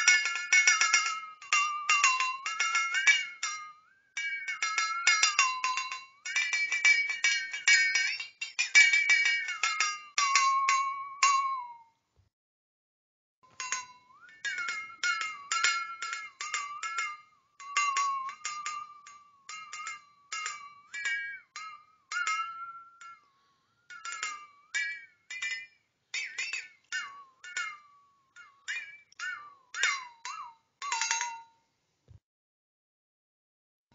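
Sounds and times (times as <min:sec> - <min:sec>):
flexatone being shaken: 0:00.0 - 0:11.9, 0:13.5 - 0:31.6.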